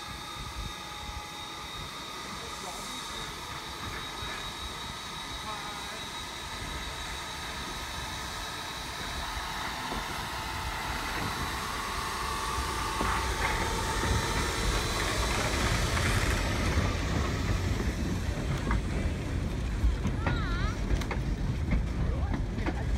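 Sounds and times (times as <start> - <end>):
low rumble of carriages: 0.0 - 22.9
steam locomotive hauling carriages: 0.0 - 22.9.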